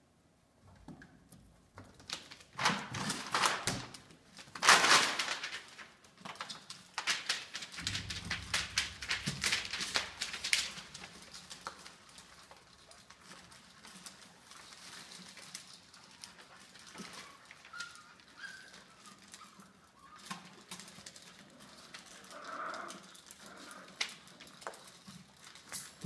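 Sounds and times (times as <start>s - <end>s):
puppy paws clicking: 0.9s - 26.0s
paper rustling: 2.0s - 26.0s.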